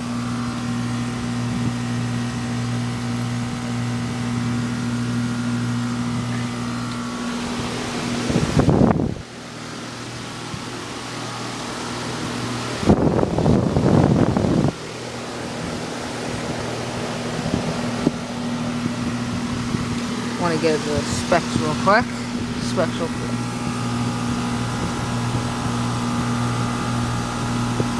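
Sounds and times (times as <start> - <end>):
compressor hum: 0.0 - 27.9
condenser fan rushing: 0.0 - 27.9.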